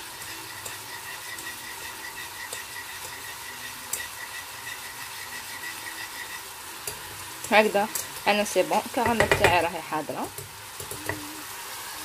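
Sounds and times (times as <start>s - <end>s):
sauce bubbling in a saucepan: 0.0s - 12.0s.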